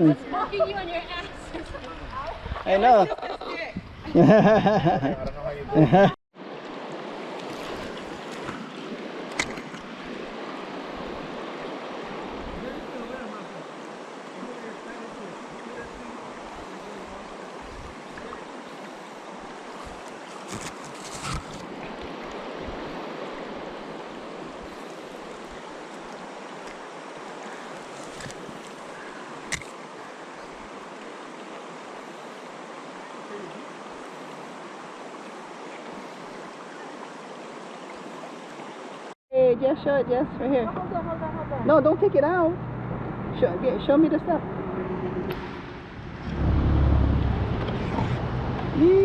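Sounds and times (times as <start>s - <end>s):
water rushing: 4.1s - 39.2s, 39.8s - 49.0s.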